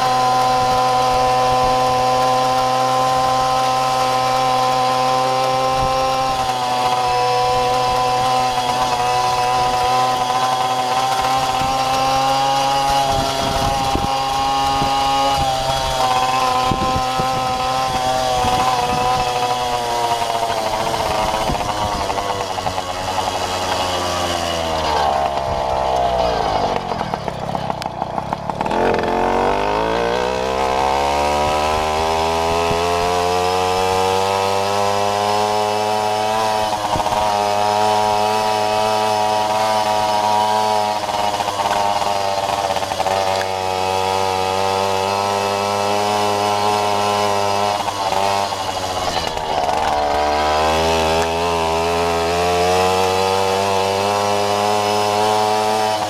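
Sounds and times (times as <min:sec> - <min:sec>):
moped engine revving: 0:00.0 - 0:56.0.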